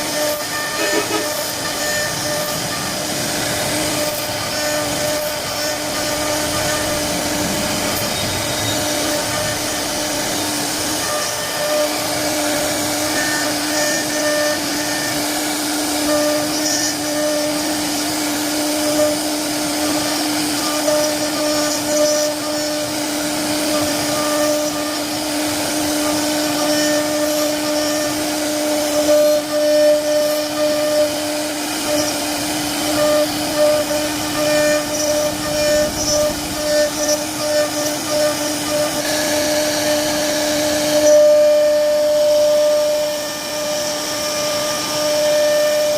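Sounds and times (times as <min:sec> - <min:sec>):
router bit cutting wood: 0:00.0 - 0:45.9
router spindle hum: 0:00.0 - 0:45.9.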